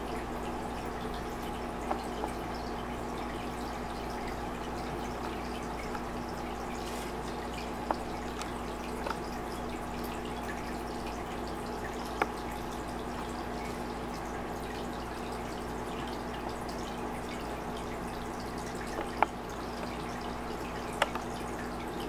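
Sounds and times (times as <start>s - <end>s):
aquarium water trickling and dripping: 0.0s - 22.0s
low steady hum: 0.0s - 22.0s.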